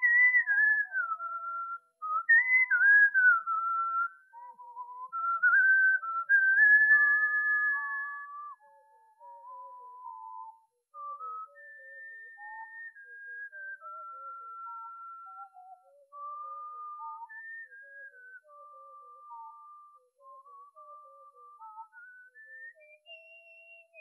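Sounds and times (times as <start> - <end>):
lower whistled line: 0.0 - 24.0
person whistling a slow melody: 0.0 - 24.0.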